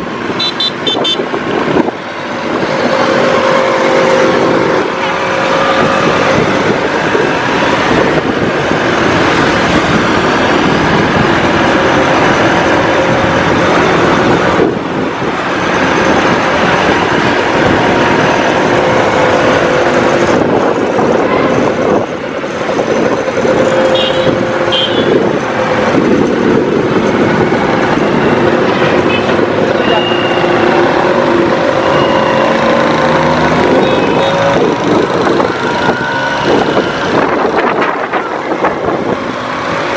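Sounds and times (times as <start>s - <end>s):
traffic: 0.0s - 39.9s
wind noise: 0.0s - 39.9s.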